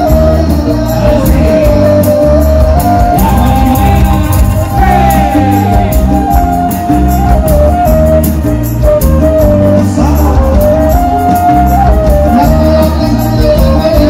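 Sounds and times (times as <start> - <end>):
live band playing pop song: 0.0 - 14.0.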